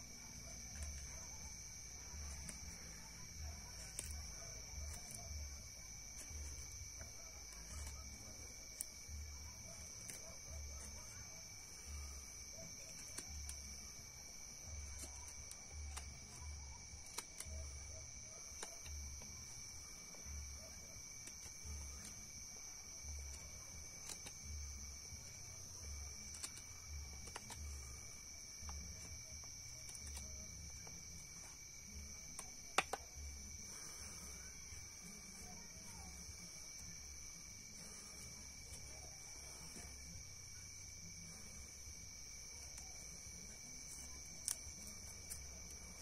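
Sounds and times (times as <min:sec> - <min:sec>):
knife shaving a wooden stick: 0:00.0 - 0:46.0
night insects chirring: 0:00.0 - 0:46.0.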